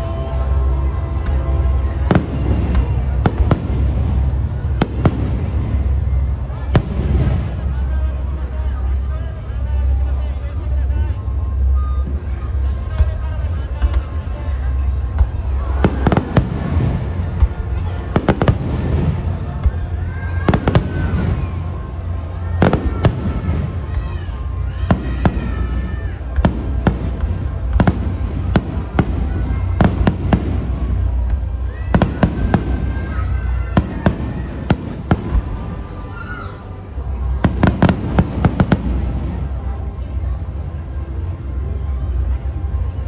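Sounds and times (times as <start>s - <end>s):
fireworks bursting: 0.0s - 10.1s, 11.6s - 40.4s.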